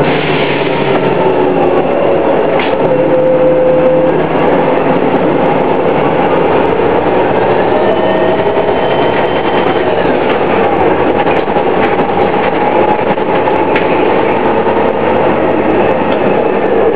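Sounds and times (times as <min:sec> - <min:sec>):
bus engine whine and rumble: 0:00.0 - 0:16.9.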